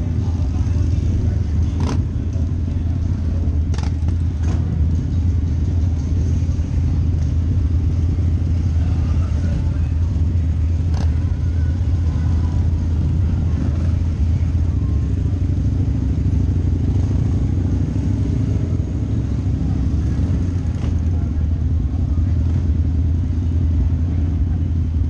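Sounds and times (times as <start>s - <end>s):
motorcycle engine running: 0.0s - 25.0s
other motorcycles: 0.0s - 25.0s.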